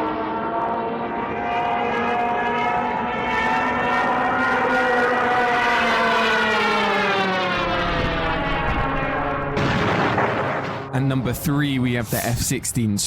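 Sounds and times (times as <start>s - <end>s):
dive siren wailing: 0.0s - 11.4s.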